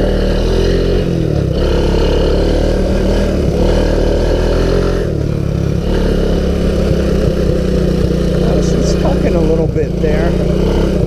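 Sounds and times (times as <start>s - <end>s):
engine running under throttle: 0.0s - 11.0s.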